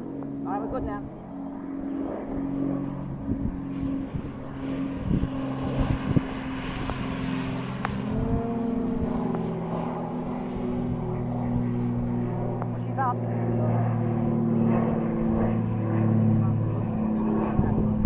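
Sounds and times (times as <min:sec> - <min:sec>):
propeller motor droning: 0:00.0 - 0:18.0.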